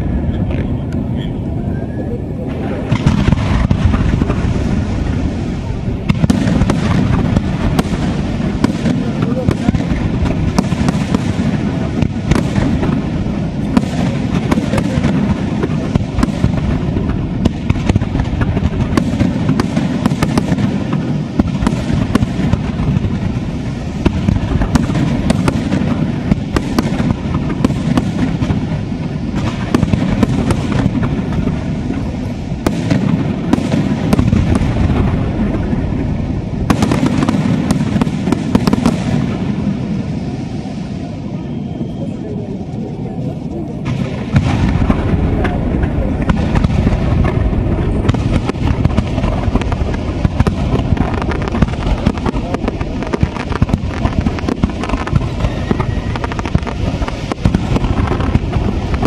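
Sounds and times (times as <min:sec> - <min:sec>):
firework shell bursts and crackling: 0:02.5 - 0:40.9, 0:43.8 - 0:59.0.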